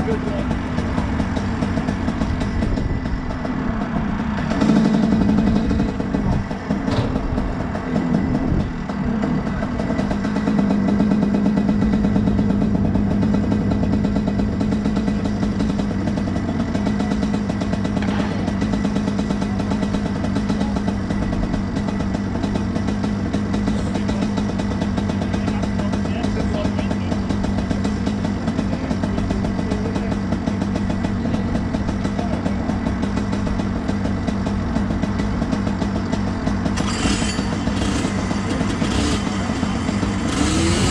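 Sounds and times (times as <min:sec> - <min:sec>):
kart two-stroke engine running: 0:00.0 - 0:40.9.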